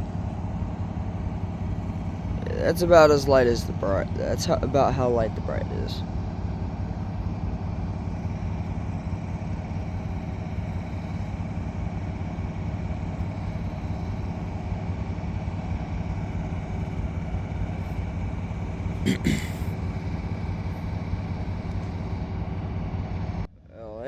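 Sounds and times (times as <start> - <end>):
diesel locomotive engine idling: 0.0 - 24.0.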